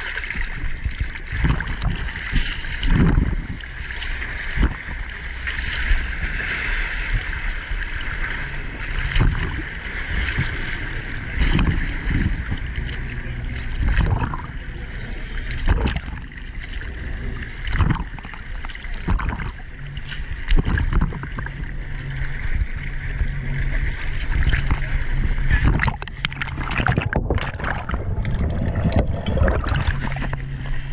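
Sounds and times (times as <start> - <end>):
waves slapping and splashing: 0.0 - 30.9
boat engine idling: 2.8 - 30.9.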